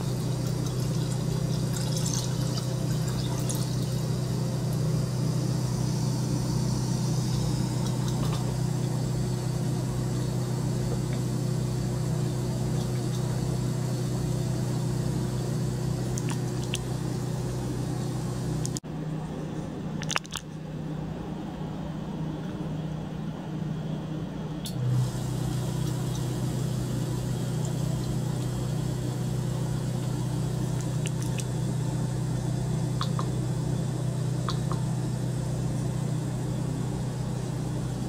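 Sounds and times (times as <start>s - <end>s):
water pump humming: 0.0s - 18.8s, 24.6s - 38.0s.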